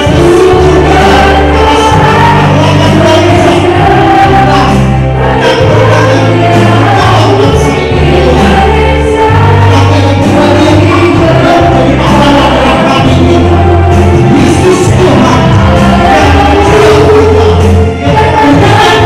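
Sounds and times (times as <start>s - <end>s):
singing over a band: 0.0s - 19.0s
strong sustained bass: 0.0s - 19.0s.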